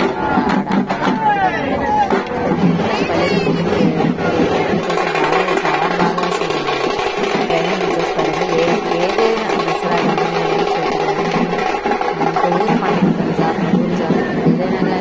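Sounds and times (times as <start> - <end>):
crowd noise: 0.0 - 15.0
frame drums: 0.0 - 15.0.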